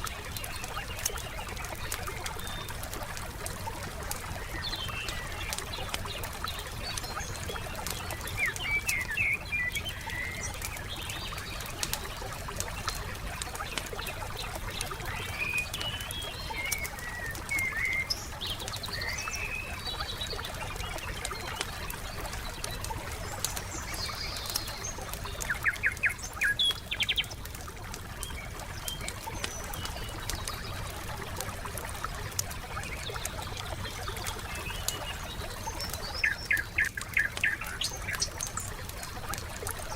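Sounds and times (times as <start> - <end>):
birds chirping: 0.0 - 39.9
wood fire crackling and popping: 0.0 - 39.9.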